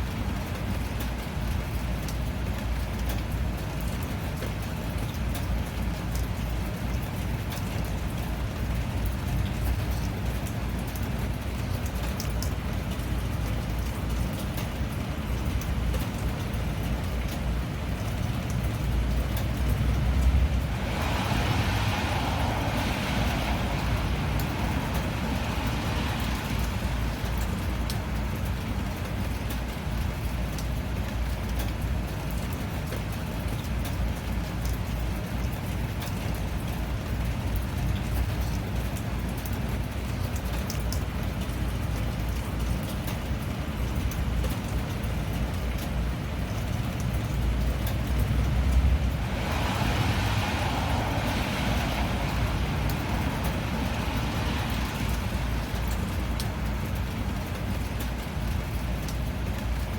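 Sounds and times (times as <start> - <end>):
rain drops ticking: 0.0 - 59.9
rain hiss: 0.0 - 59.9.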